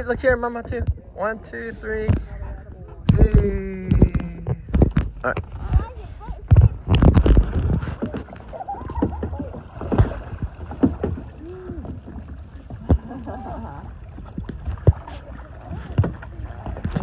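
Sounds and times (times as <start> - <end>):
water noise: 0.0 - 17.0
wind rumbling on microphone: 0.0 - 17.0
paddles knocking against hull: 2.0 - 17.0.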